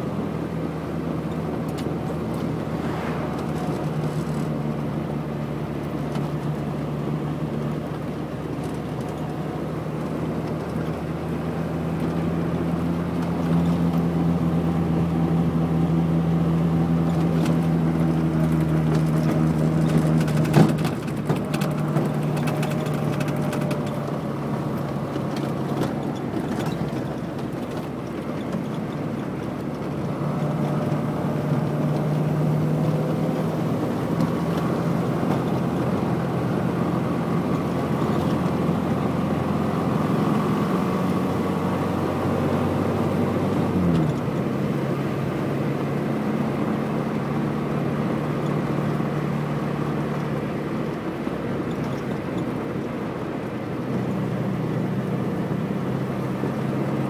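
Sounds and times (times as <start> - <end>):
car engine running: 0.0 - 57.0
tyre noise on wet road: 0.0 - 57.0.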